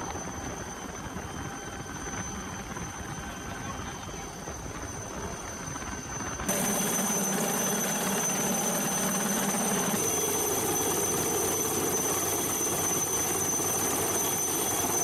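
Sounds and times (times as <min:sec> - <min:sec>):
helicopter turbine whine: 0:00.0 - 0:15.0.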